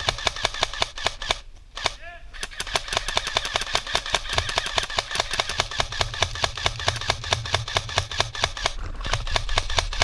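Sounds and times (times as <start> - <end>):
airsoft gun rapid firing: 0.0 - 10.0.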